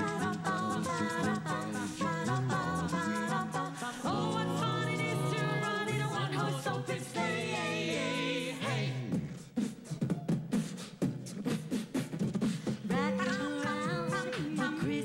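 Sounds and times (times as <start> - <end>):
beatboxing: 0.0 - 15.0
group singing in harmony: 0.0 - 15.0.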